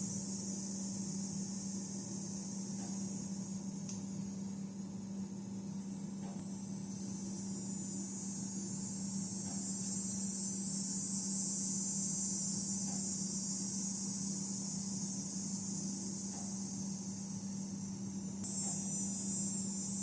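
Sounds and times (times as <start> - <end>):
insects shrilling: 0.0 - 4.2, 6.5 - 20.0.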